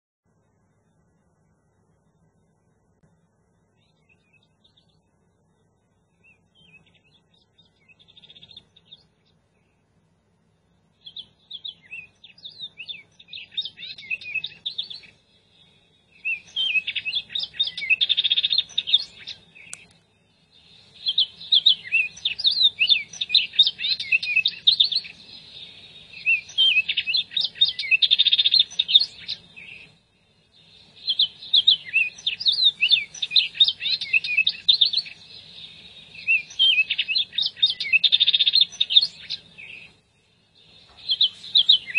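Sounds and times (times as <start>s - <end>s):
birds chirping: 0.4s - 41.9s.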